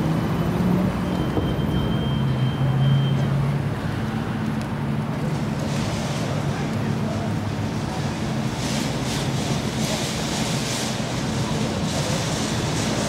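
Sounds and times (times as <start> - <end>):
street noise: 0.0 - 13.0
tram running: 0.0 - 13.0.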